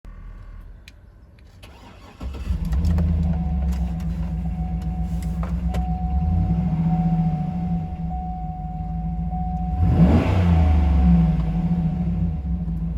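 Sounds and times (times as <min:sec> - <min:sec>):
car engine starting and idling: 0:00.0 - 0:12.9.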